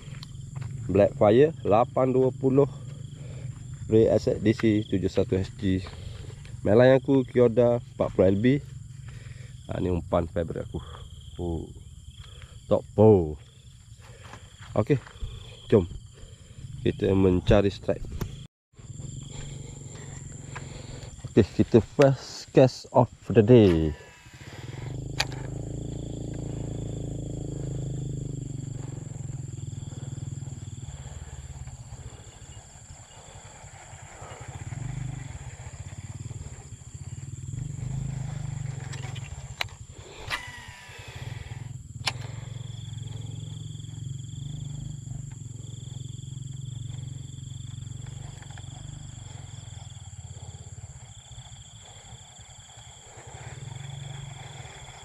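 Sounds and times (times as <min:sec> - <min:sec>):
insect buzz: 0:00.0 - 0:55.0.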